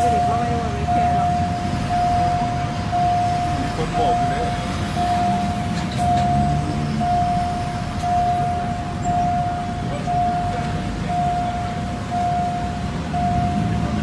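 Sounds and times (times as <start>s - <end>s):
railway warning beeper: 0.0s - 14.0s.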